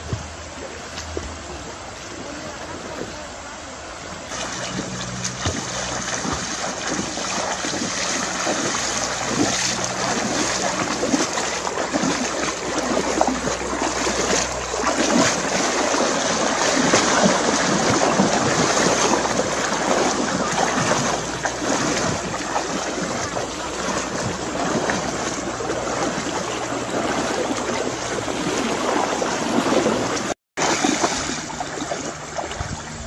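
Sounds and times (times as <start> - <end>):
people wading through water: 0.0 - 33.0.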